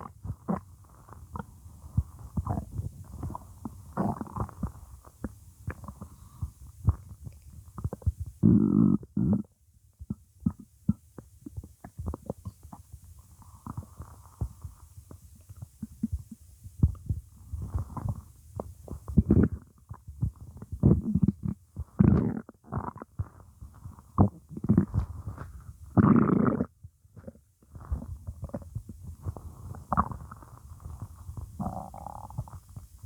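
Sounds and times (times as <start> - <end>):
stomach growling and gurgling: 0.0 - 33.0.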